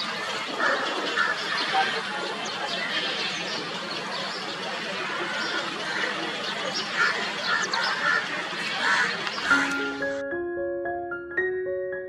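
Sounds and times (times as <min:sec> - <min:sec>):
sparrows chirping: 0:00.0 - 0:10.0.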